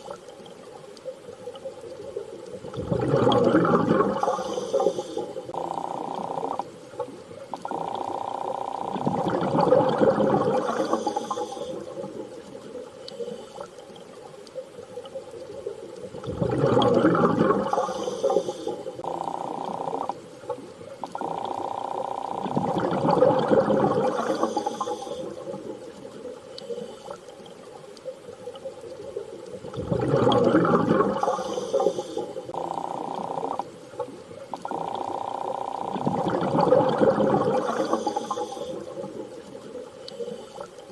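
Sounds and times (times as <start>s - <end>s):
rushing gurgling water: 0.0s - 13.0s, 13.7s - 40.9s.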